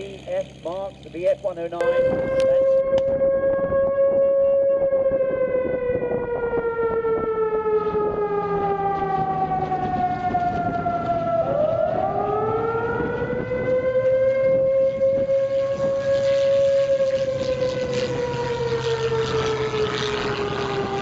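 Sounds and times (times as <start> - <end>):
air-raid siren wailing: 1.8 - 21.0.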